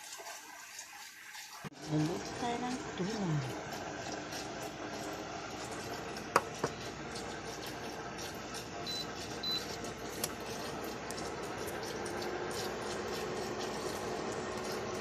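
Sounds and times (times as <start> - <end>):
induction hob whirring: 0.5 - 15.0.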